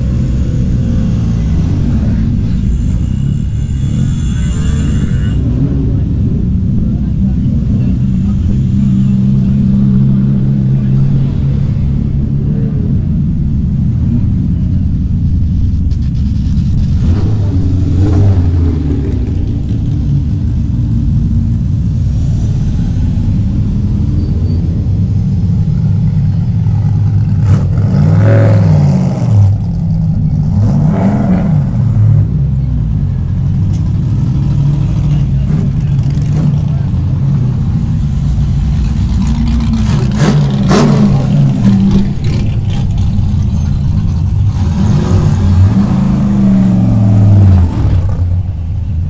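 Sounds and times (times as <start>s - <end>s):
racing car engines burbling: 0.0s - 49.0s.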